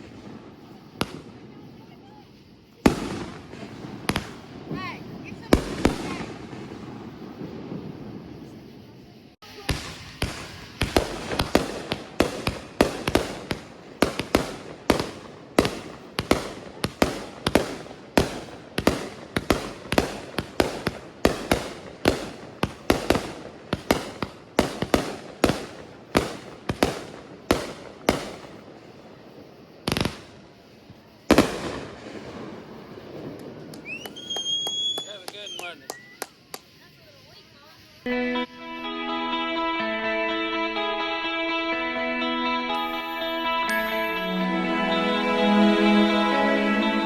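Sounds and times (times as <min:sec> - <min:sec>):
fireworks bangs: 0:00.0 - 0:38.1.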